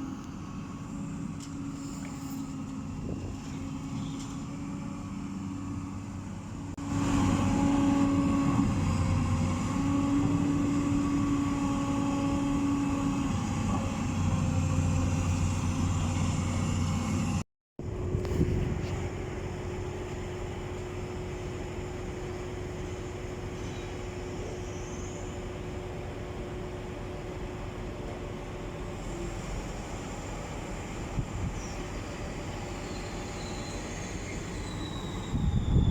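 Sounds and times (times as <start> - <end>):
large engine running: 0.0 - 34.6.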